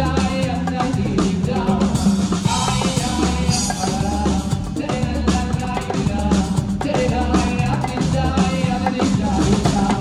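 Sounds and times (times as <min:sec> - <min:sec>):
hand drum and timbales: 0:00.0 - 0:10.0
live band music: 0:00.0 - 0:10.0.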